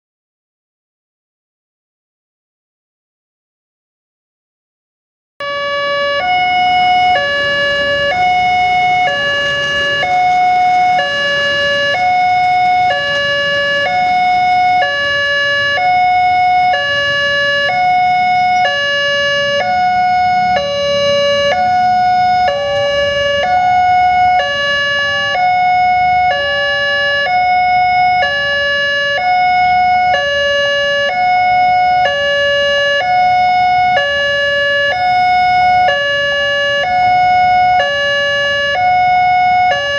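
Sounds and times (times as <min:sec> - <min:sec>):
level crossing warning sirens: 0:05.4 - 0:39.9.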